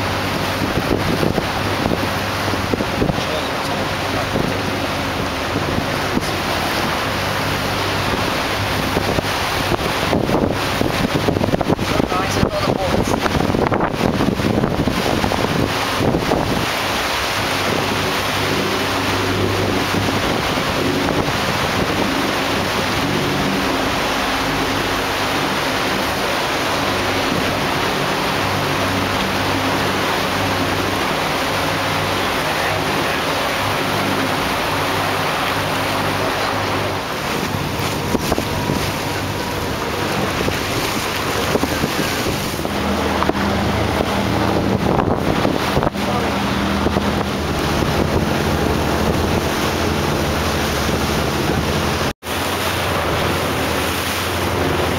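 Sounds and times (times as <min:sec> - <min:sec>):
boat engine humming: 0:00.0 - 0:54.9
water rushing past hull: 0:00.0 - 0:54.9
wind buffeting microphone: 0:00.0 - 0:54.9.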